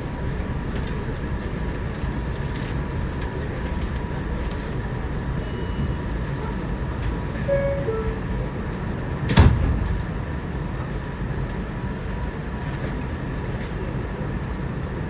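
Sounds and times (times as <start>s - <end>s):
wheels rumbling on track: 0.0s - 15.0s.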